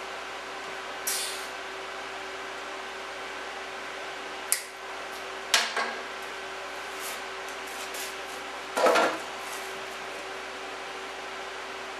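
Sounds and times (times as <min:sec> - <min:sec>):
welder humming with fan: 0:00.0 - 0:11.9.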